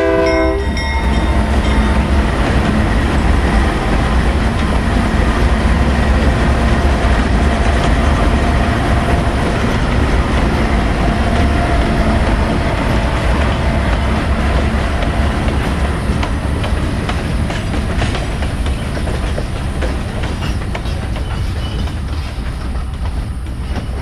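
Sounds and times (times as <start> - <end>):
diesel locomotive engine: 0.0 - 24.0
wheels clicking over rail joints: 0.8 - 24.0.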